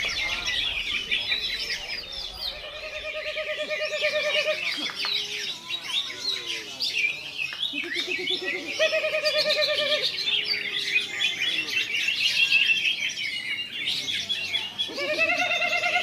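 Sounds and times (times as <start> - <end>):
bird warbling song: 0.0 - 16.0.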